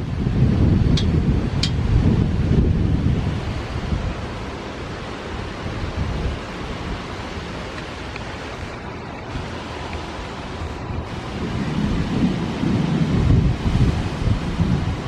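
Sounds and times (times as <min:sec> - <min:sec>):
strong wind rushing: 0:00.0 - 0:07.7, 0:08.3 - 0:15.0
wind buffeting microphone: 0:00.0 - 0:15.0.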